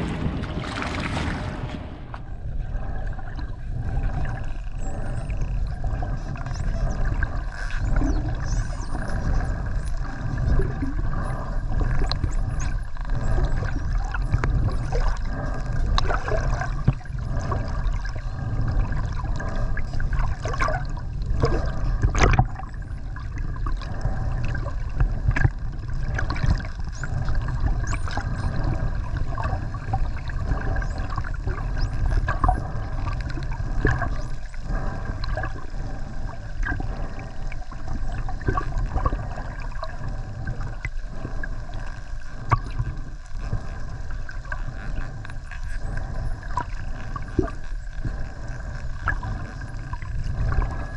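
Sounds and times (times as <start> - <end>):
underwater rush of water: 0.0 - 50.9.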